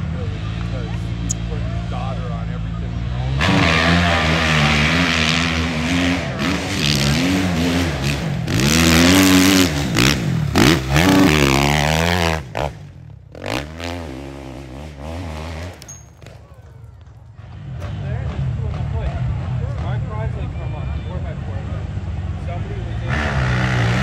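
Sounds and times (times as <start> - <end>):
dirt bike engine revving: 0.0 - 16.6, 17.4 - 24.0.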